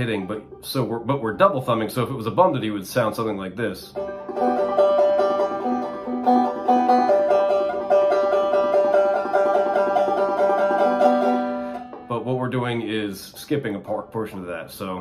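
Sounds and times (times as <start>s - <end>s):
banjo played clawhammer style: 0.0s - 15.0s.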